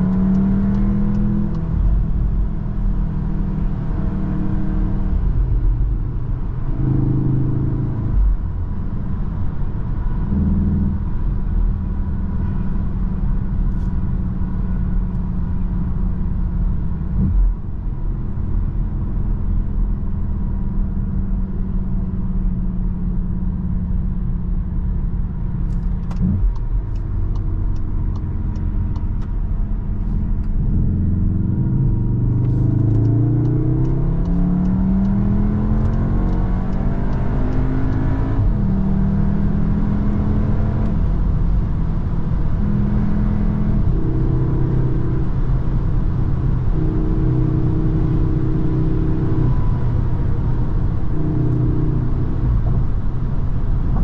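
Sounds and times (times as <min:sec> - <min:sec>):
car engine cruising: 0:00.0 - 0:54.0
road and tyre noise: 0:00.0 - 0:54.0.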